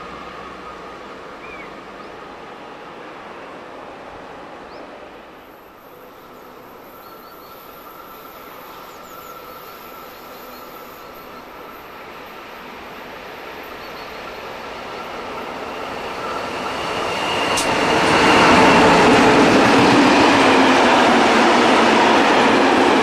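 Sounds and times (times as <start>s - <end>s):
distant train approaching: 0.0s - 23.0s
electric freight train rumbling: 0.0s - 23.0s.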